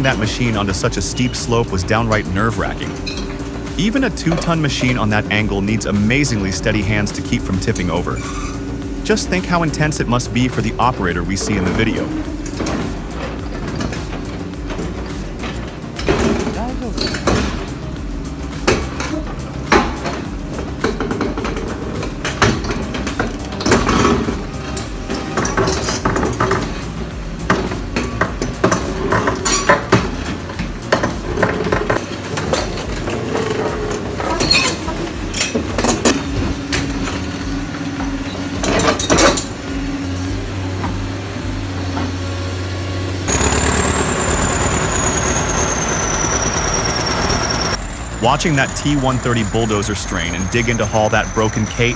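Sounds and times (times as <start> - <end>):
high whine falling in pitch: 0.0 - 32.0, 32.7 - 51.9
metallic clanks and knocks: 0.0 - 42.2
heavy machinery engine rumble: 0.0 - 51.9.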